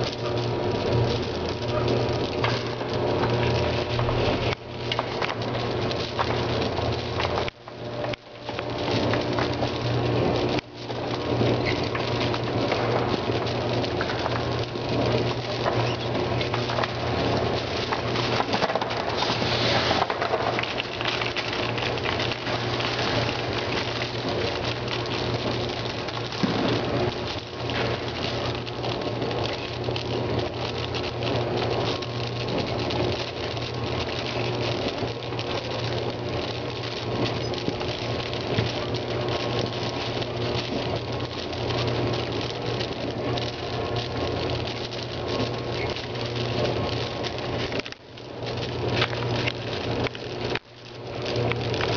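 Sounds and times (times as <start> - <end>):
machine hum: 0.0 - 51.9.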